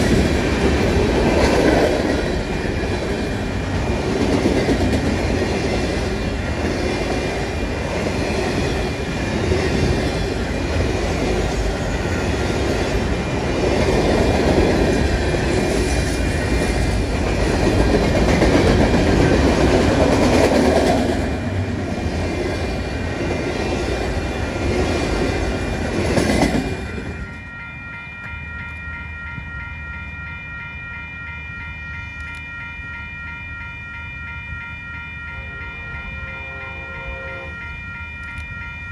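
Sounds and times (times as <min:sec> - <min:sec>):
steady high tones: 0:00.0 - 0:38.9.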